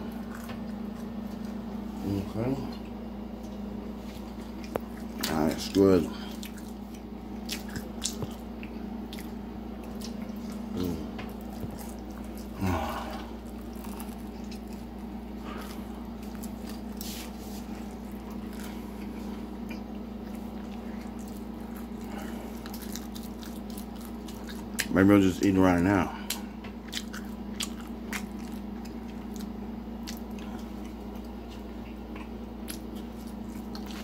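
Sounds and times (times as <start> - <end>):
low hum: 0.0 - 34.0
person chewing pizza: 0.0 - 34.0.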